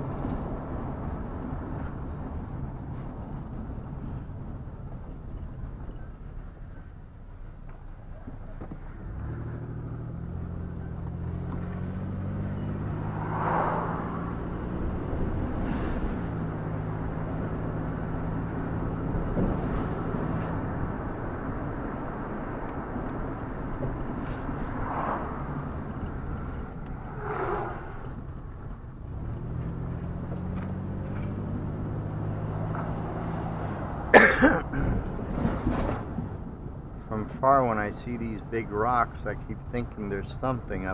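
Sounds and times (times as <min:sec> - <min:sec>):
road noise: 0:00.0 - 0:40.9
vehicle engine: 0:00.0 - 0:40.9.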